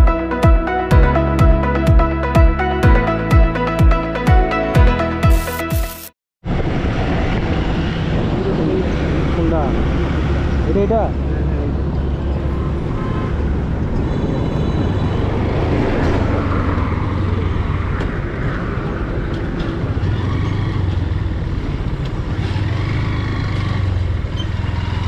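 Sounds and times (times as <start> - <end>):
road noise: 4.9 - 25.0.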